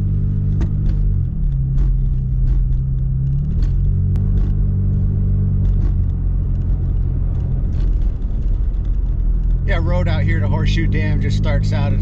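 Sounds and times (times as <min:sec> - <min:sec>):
pickup engine and road drone: 0:00.0 - 0:12.0.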